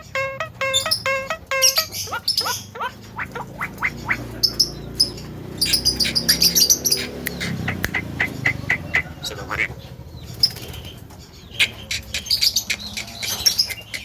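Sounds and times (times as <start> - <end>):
bird whistling and chattering: 0.0 - 9.8, 11.5 - 14.0.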